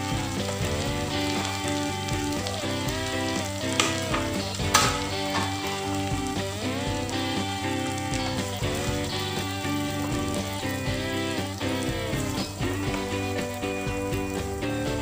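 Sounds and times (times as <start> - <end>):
background music: 0.0 - 15.0
food sizzling in a frying pan: 0.0 - 15.0
spatula turning food: 0.0 - 15.0.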